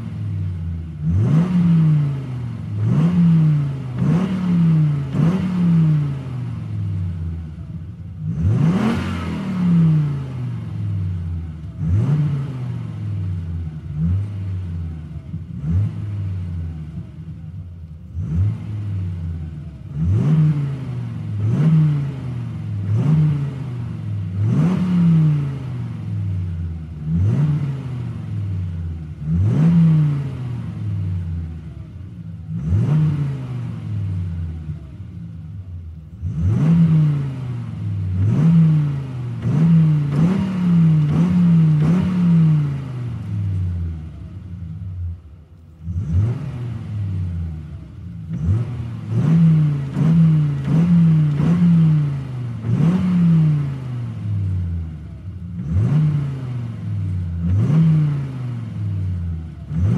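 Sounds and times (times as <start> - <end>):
sports car engine revving: 0.0 - 59.9.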